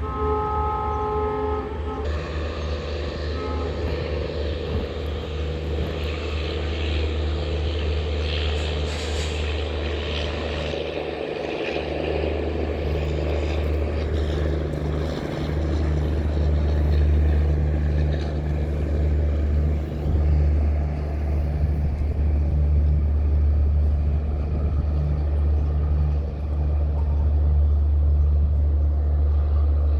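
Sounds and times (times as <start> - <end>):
diesel locomotive engine drone: 0.0 - 29.9.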